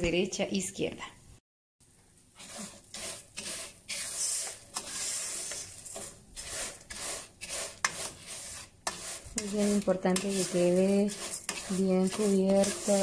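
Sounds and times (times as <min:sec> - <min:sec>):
dry noodles rasping in a pan: 0:02.3 - 0:13.0.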